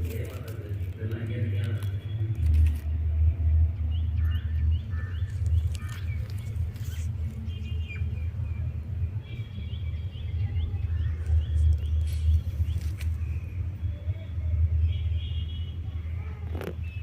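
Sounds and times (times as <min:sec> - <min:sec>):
steady low rumble: 0:00.0 - 0:16.9
small birds chirping: 0:00.0 - 0:17.0.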